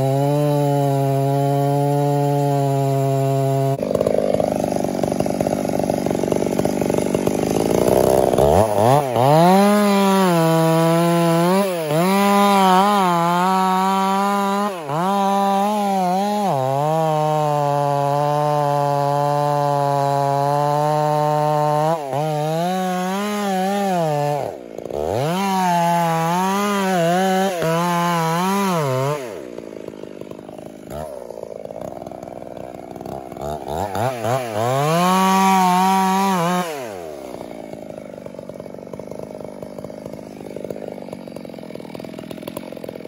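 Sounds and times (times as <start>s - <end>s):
chainsaw cutting and revving: 0.0s - 43.0s.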